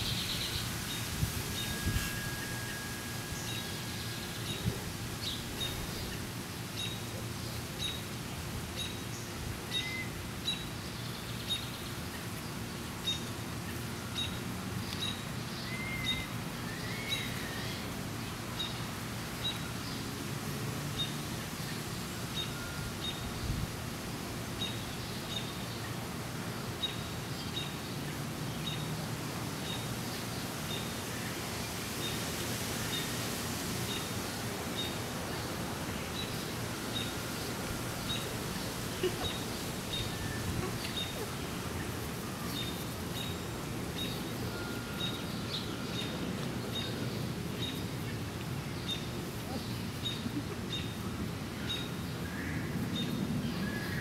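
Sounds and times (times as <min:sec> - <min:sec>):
low outdoor hum: 0:00.0 - 0:54.0.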